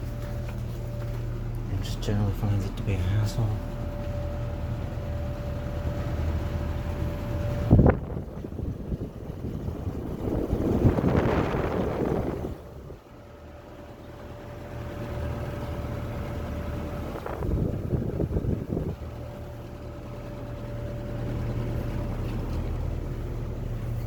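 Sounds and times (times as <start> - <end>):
air conditioner hum: 0.0 - 24.0
faint steady whine: 0.0 - 24.0.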